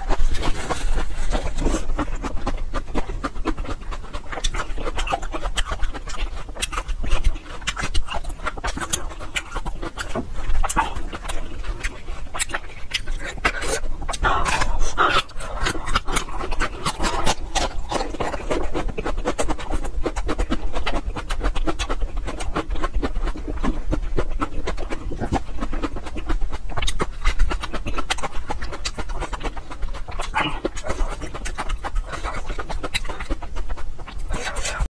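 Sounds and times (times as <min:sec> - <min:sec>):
crunchy chewing: 0:00.0 - 0:34.9
wet mouth sounds: 0:00.0 - 0:34.9.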